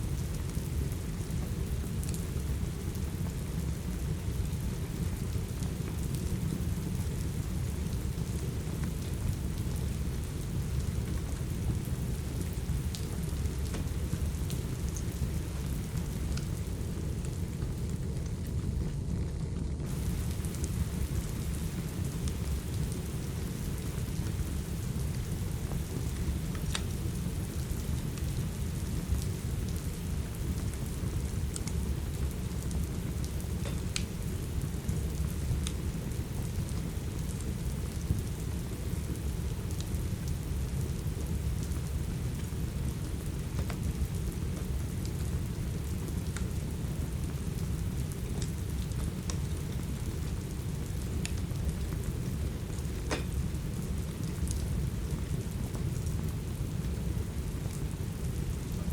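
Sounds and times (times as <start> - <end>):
continuous low rumble: 0.0 - 58.9
steady rain: 0.0 - 58.9
wood fire crackling: 0.0 - 58.9.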